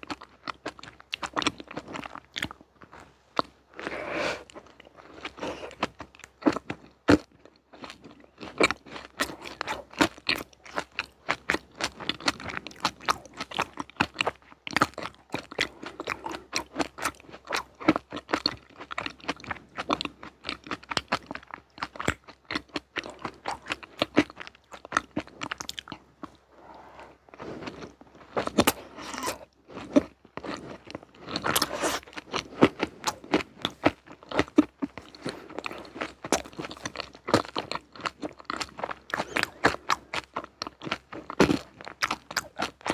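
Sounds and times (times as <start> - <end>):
chewing crunchy sweets: 0.0 - 42.9.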